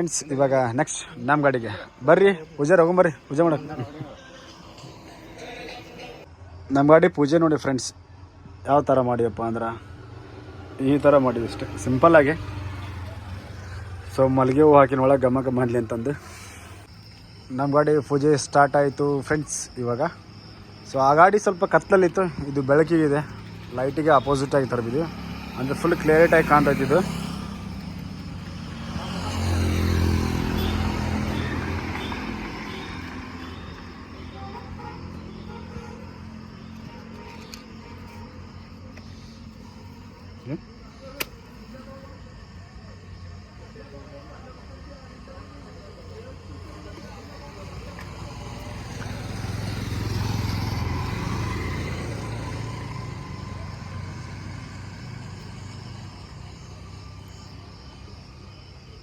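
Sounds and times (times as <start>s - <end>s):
vehicle engine humming: 7.9s - 42.6s, 43.8s - 59.0s.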